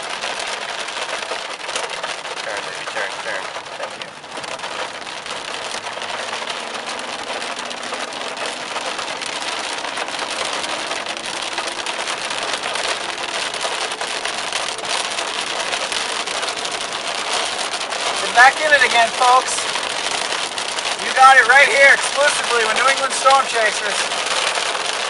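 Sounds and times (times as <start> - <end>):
heavy rain pelting car roof: 0.0 - 25.0.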